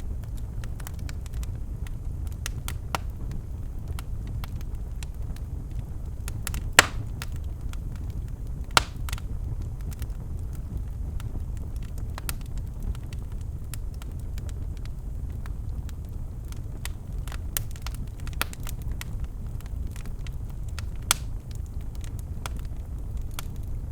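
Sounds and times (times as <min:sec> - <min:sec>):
fire crackling and snapping: 0:00.0 - 0:23.9
fire flames rumbling: 0:00.0 - 0:23.9
loud fire pops: 0:00.0 - 0:23.9.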